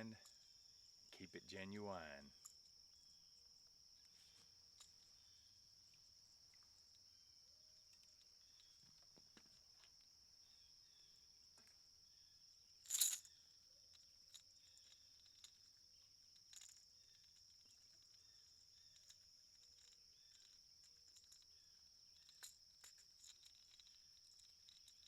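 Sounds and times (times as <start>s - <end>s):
crickets droning: 0.0s - 25.0s.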